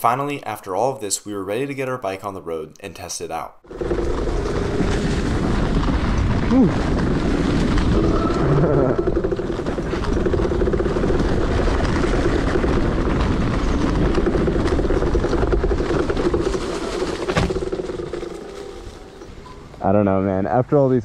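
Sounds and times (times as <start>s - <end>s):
tyres rumbling on dirt: 3.6s - 20.9s.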